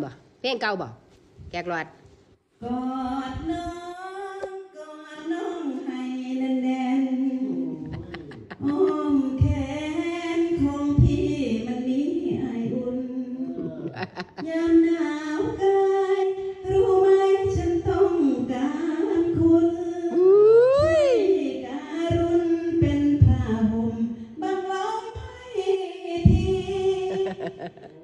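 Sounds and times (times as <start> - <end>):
woman singing into a microphone: 2.6 - 8.0, 8.6 - 13.8, 14.4 - 27.5.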